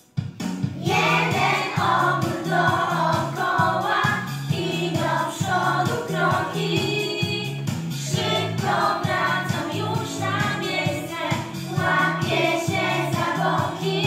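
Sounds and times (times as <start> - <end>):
instrumental accompaniment: 0.1 - 14.0
children singing in unison: 0.8 - 7.4, 8.0 - 14.0.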